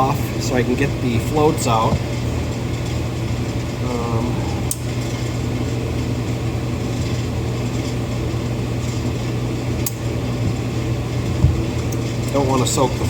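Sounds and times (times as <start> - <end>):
furnace humming: 0.0 - 13.0.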